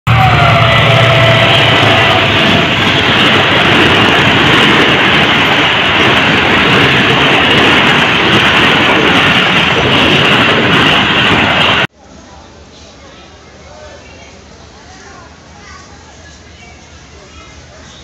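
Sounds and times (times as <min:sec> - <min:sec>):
train coaches passing: 0:00.1 - 0:18.0.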